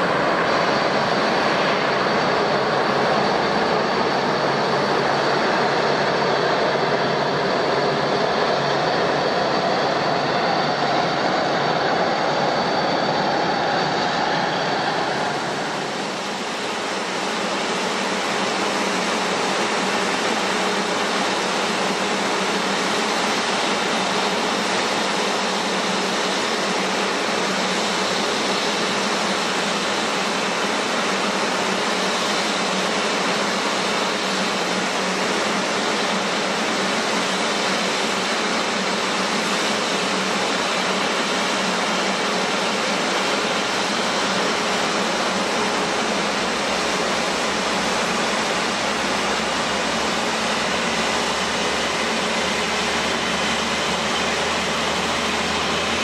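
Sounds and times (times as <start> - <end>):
jet engines idling: 0.0 - 56.0.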